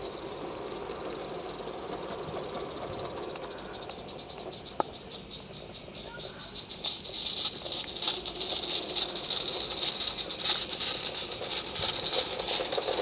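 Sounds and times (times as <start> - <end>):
rapid steam exhaust beats: 0.0 - 13.0
steady steam hiss: 0.0 - 13.0
wheels running on track: 0.0 - 13.0.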